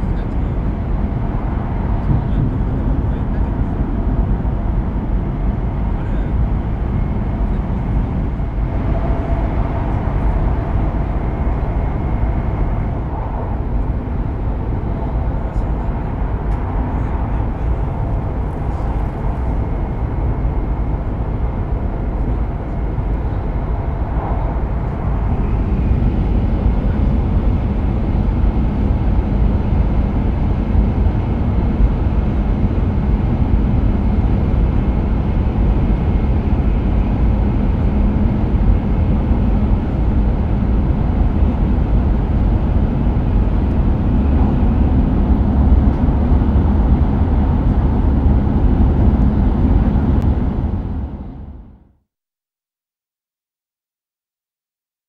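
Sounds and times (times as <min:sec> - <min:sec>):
train cabin running noise: 0:00.0 - 0:51.8.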